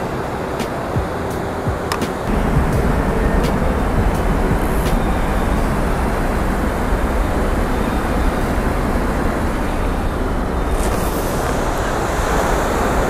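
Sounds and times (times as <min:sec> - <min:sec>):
surf washing up beach: 0:00.0 - 0:13.0
wind buffeting microphone: 0:00.0 - 0:13.0.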